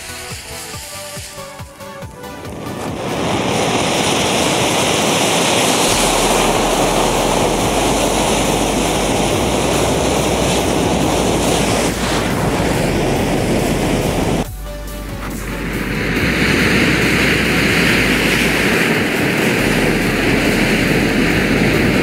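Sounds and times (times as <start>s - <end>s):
rushing hiss of flame: 0.0s - 14.5s, 15.1s - 22.0s
deep rumble: 2.1s - 22.0s.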